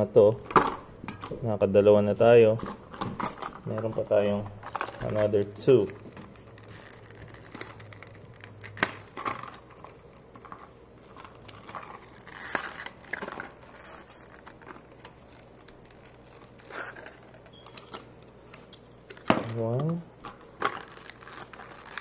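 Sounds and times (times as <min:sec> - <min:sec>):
plastic packaging crinkling: 0:02.5 - 0:22.0.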